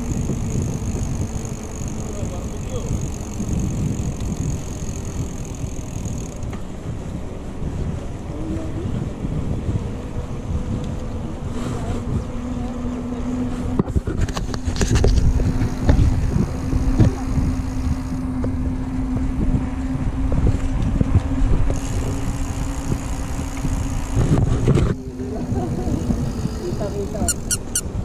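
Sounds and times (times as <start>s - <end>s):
steady hum: 0.0s - 8.9s, 14.1s - 28.0s
bike tyre rumble: 0.0s - 28.0s
wind rushing over microphone: 0.0s - 28.0s.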